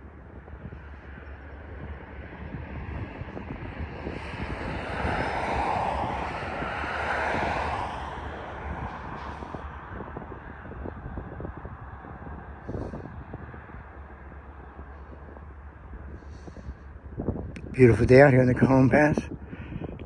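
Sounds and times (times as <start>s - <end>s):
vehicle passing: 0.0s - 20.0s
wind rumbling on microphone: 0.0s - 20.0s.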